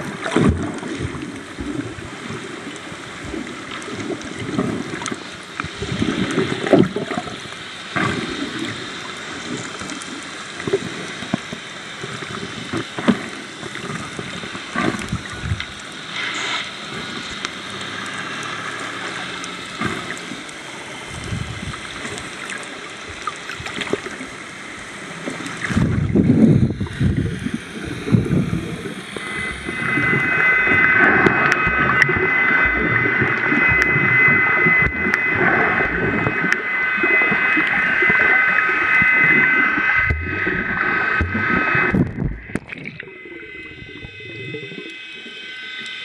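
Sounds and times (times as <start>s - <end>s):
underwater hiss and slosh: 0.0s - 45.6s
high multi-tone whine: 0.0s - 46.0s
low gurgling churn: 0.0s - 46.0s.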